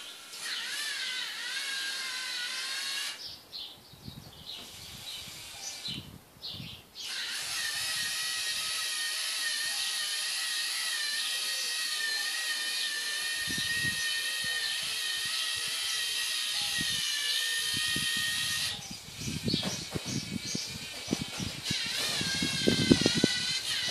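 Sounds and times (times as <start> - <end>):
servo motor whining: 0.0 - 3.4, 4.5 - 23.9.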